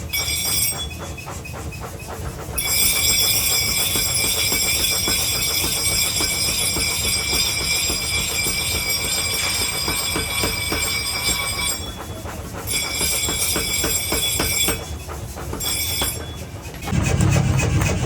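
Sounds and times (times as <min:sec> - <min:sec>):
steel grinding squeal: 0:00.1 - 0:01.8, 0:02.6 - 0:18.0.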